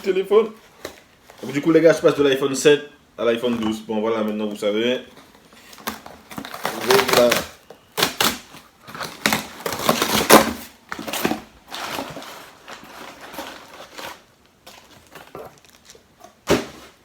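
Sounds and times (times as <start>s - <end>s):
cardboard and paper packaging rustling: 0.0s - 2.6s, 3.3s - 17.0s.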